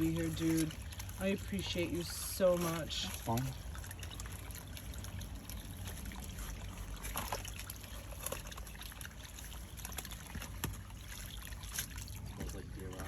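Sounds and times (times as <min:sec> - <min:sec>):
water trickling and splashing from pipe: 0:00.0 - 0:13.0.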